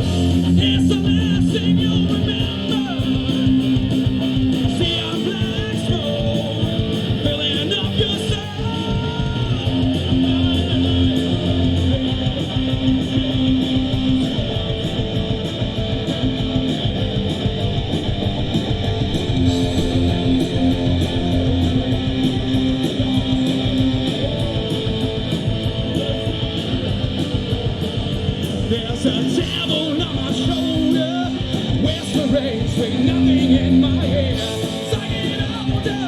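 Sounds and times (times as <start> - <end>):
bass: 0.0 - 36.0
drums: 0.0 - 36.0
electric guitars strumming: 0.0 - 36.0.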